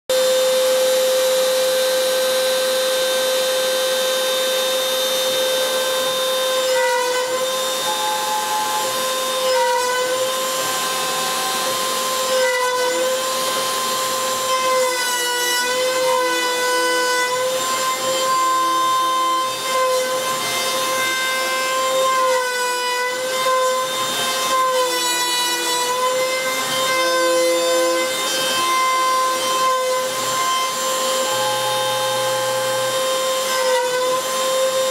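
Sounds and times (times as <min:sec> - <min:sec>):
router spindle whining: 0:00.1 - 0:34.9.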